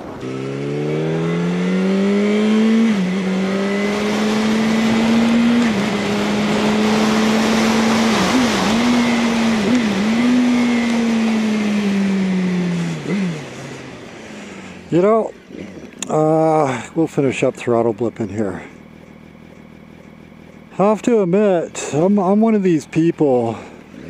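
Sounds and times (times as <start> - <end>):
motorcycle engine pulling hard: 0.0 - 24.0.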